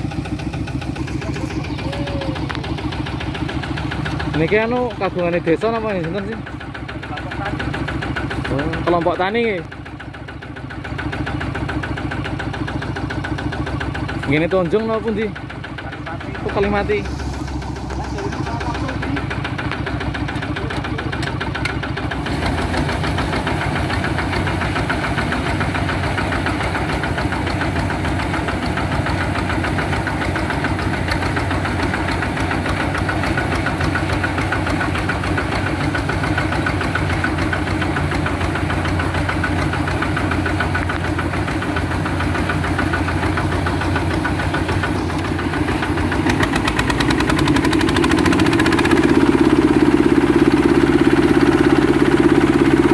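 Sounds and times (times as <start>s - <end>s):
harvester engine running: 0.0s - 52.9s.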